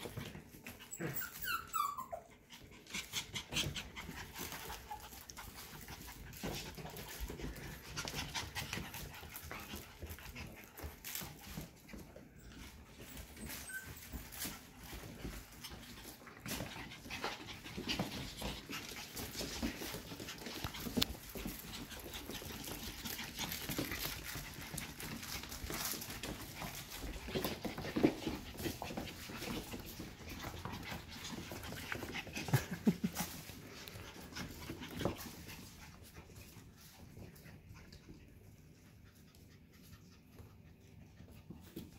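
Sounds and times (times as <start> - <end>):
puppies panting: 0.0 - 41.9.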